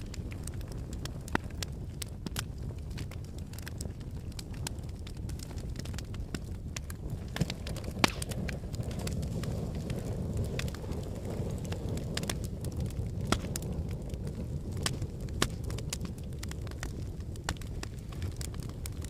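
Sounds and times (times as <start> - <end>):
fire crackles and pops: 0.0 - 19.0
rush of flames: 0.0 - 19.0.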